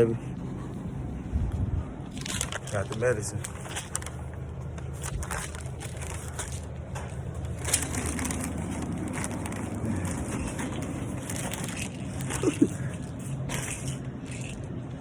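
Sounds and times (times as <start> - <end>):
steady low hum: 0.0 - 15.0
rustling handling noise: 2.0 - 15.0.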